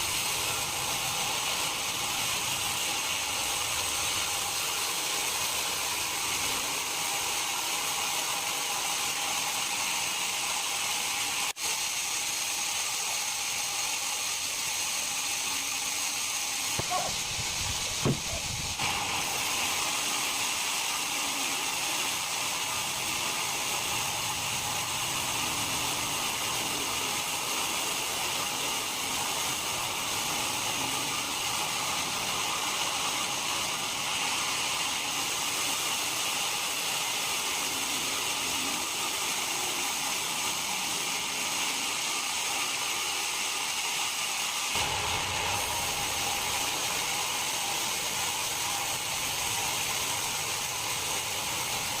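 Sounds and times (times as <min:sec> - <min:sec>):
machinery hiss and whir: 0:00.0 - 0:52.0.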